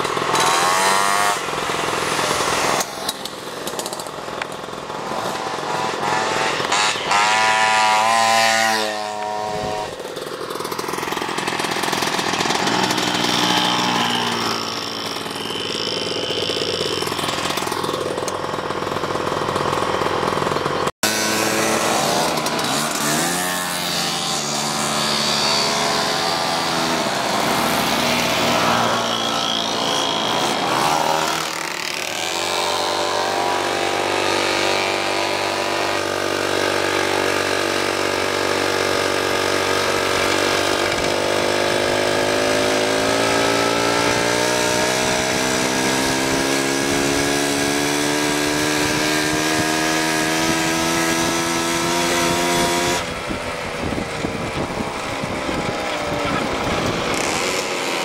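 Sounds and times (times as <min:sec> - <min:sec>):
moped engines passing by: 0:00.0 - 0:58.0
mopeds riding in a group: 0:00.0 - 0:58.0.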